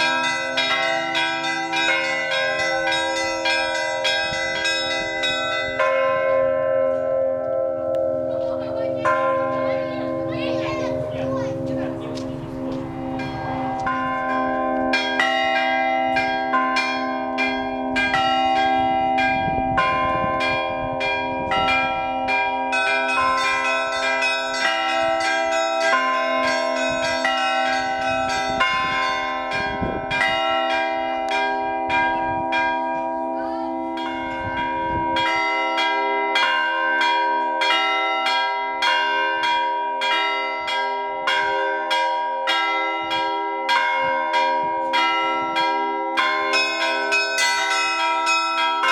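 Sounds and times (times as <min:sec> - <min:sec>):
hum of large bells: 0:00.0 - 0:48.9.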